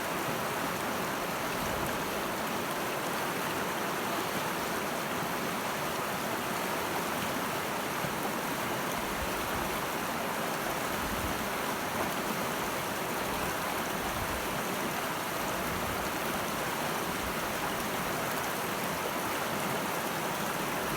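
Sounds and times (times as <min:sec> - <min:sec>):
river rushing: 0:00.0 - 0:20.9.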